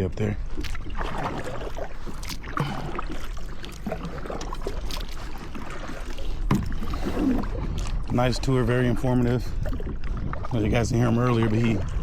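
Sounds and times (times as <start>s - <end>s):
paddle splashing in water: 0.4s - 12.0s.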